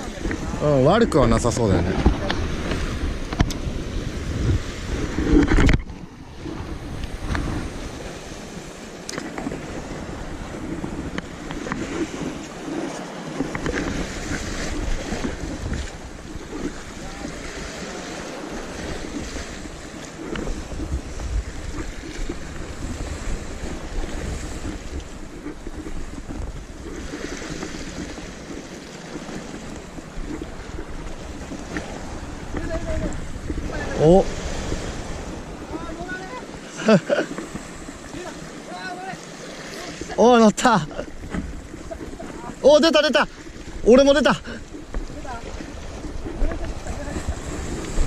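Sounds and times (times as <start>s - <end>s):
surf washing against rocks: 0.0s - 48.0s
wind buffeting microphone: 0.0s - 48.0s.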